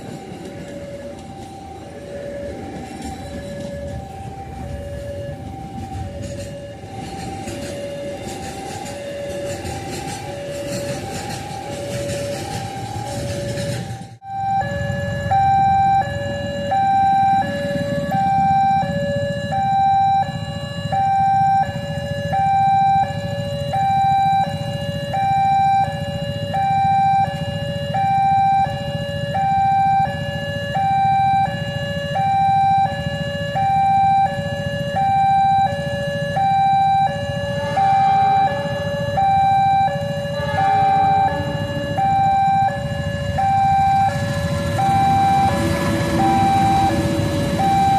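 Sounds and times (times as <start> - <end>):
two-tone electronic warning alarm: 0.0 - 47.9.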